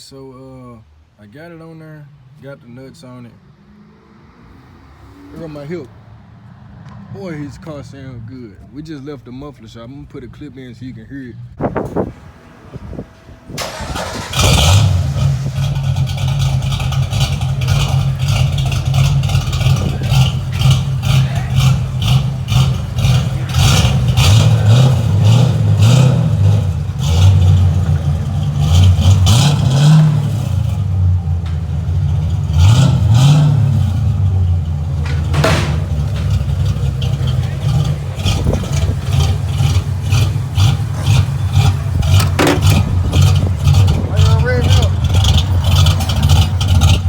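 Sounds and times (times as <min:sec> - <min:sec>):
car engine idling and revving: 0:00.8 - 0:47.0.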